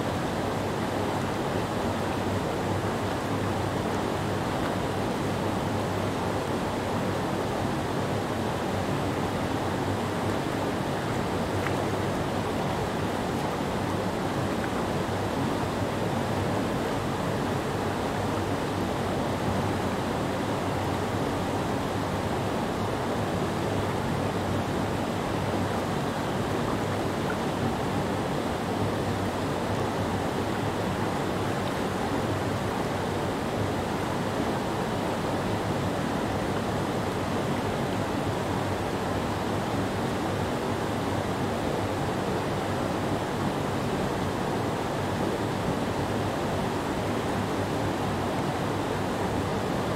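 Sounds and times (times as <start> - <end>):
creek water rushing over rocks: 0.0 - 49.9.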